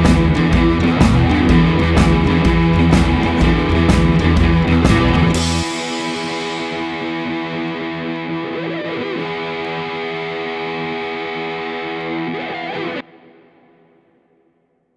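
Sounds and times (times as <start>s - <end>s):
rock music: 0.0s - 14.2s
ringing electric guitar chords: 0.0s - 14.8s.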